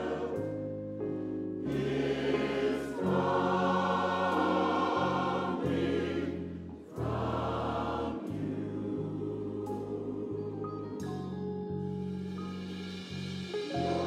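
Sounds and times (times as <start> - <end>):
gospel choir singing: 0.0 - 11.4, 13.0 - 14.0
sustained low accompaniment notes: 0.0 - 14.0.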